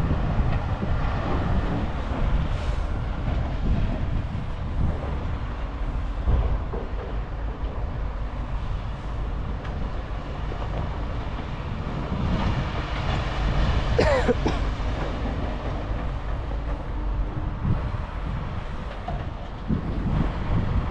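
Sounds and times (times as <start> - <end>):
diesel construction machinery rumbling: 0.0 - 20.9.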